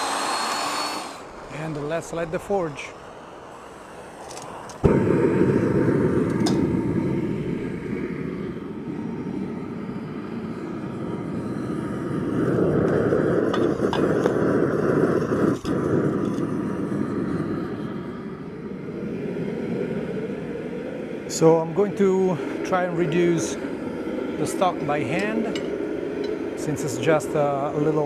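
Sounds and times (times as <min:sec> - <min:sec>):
gas burner rushing: 0:00.0 - 0:28.0.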